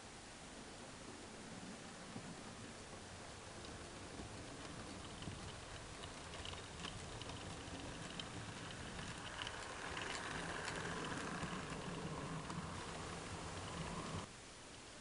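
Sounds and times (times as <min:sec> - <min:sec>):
small wheels clicking over rail joints: 0:02.2 - 0:14.3.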